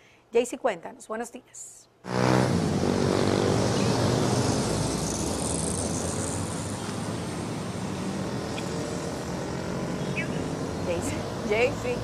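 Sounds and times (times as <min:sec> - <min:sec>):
city traffic passing: 0:02.0 - 0:12.0.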